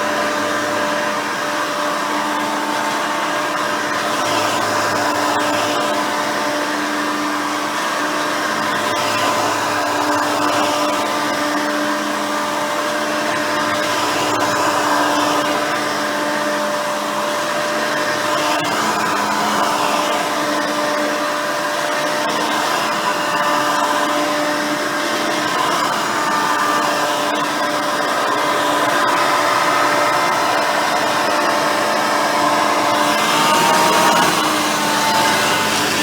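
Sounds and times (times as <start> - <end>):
upright vacuum cleaner running: 0.0 - 36.0.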